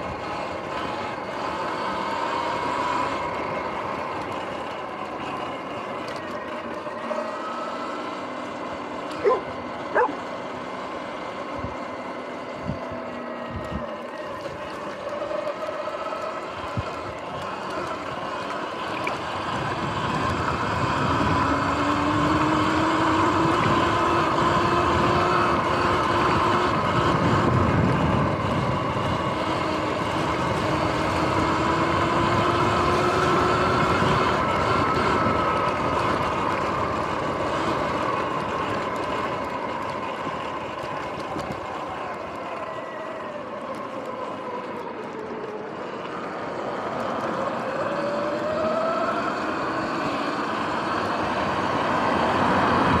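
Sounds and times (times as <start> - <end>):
electric motor whining: 0.0 - 53.0
rush of riding noise: 0.0 - 53.0.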